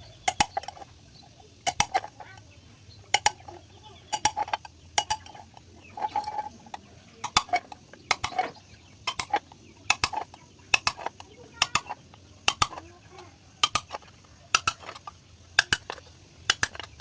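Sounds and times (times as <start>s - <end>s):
metallic clicks cutting tin can: 0.2s - 0.9s, 1.5s - 2.2s, 3.1s - 12.9s, 13.6s - 17.0s.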